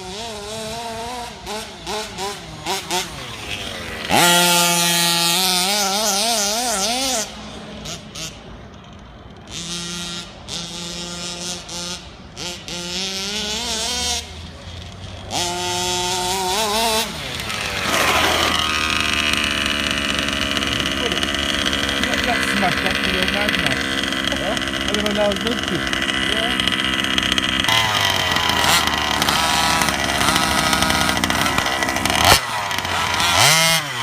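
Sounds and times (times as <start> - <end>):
two-stroke engine revving: 0.0 - 34.0.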